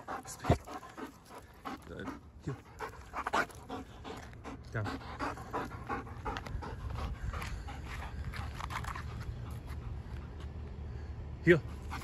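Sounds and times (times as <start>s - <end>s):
dog panting: 0.0s - 10.5s, 11.8s - 12.0s.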